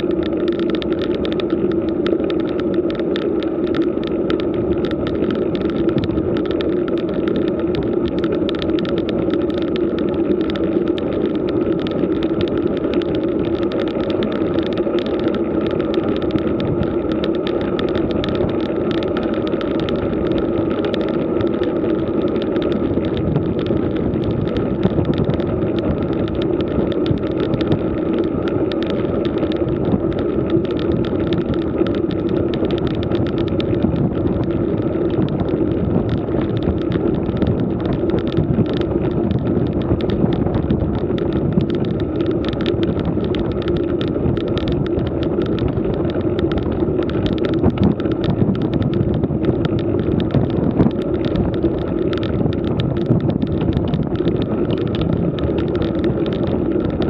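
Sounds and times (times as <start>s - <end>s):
bike tyres rolling on asphalt: 0.0s - 57.0s
constant hum: 0.0s - 57.0s
wind on microphone: 0.0s - 57.0s.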